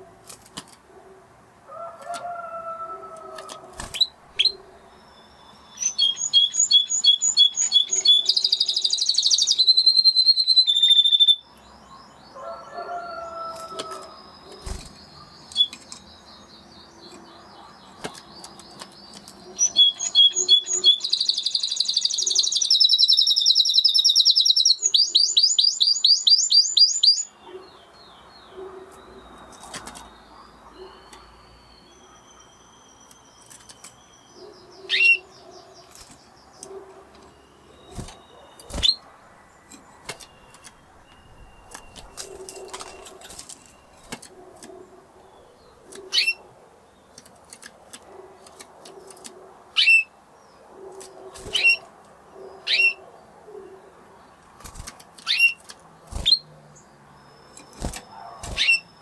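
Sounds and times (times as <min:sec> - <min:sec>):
canary singing trills: 0:02.1 - 0:59.0.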